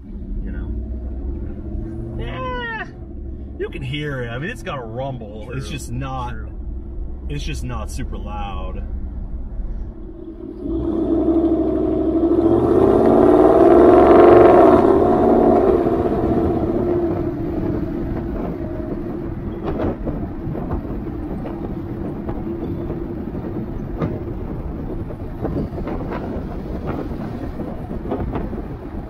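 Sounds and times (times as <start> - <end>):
truck exhaust drone: 0.0 - 29.0.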